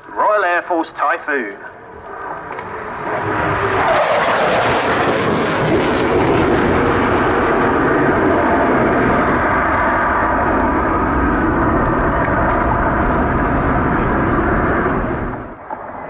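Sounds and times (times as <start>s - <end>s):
fighter jet passing: 0.0s - 16.0s.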